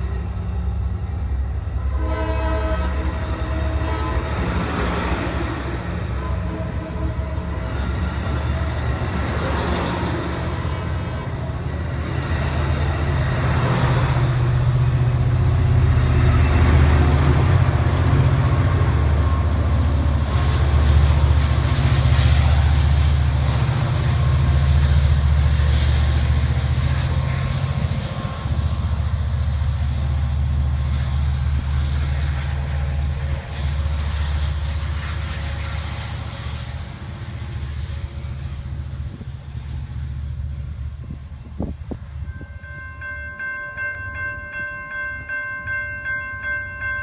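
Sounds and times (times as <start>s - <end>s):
diesel locomotive engine under load: 0.0s - 47.0s
train wheels rolling on rails: 2.6s - 47.0s.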